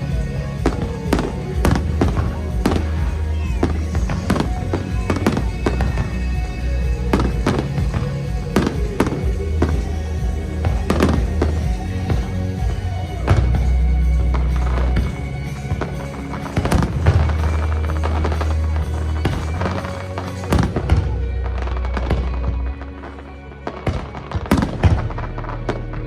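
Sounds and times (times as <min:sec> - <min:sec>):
fireworks bangs: 0:00.0 - 0:26.0
music playing: 0:00.0 - 0:26.0.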